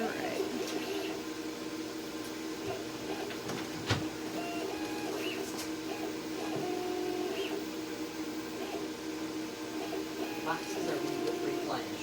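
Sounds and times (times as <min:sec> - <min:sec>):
head motors whirring: 0:00.0 - 0:12.0
laser cutter hum: 0:00.0 - 0:12.0.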